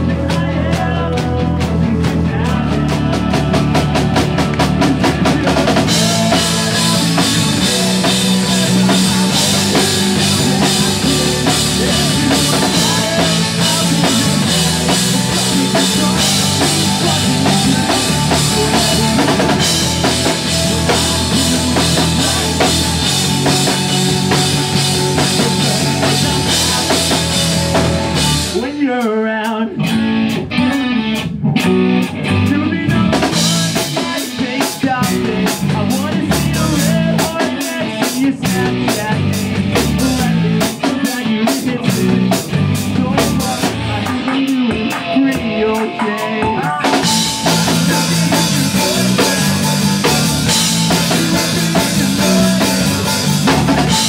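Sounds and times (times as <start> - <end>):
pop-punk band playing live: 0.0 - 54.0.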